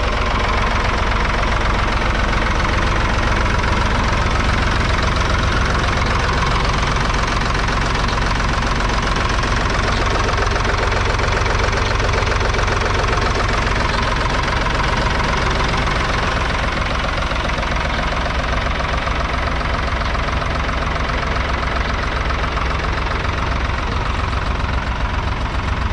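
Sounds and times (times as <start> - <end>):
diesel tractor engine running: 0.0 - 25.9.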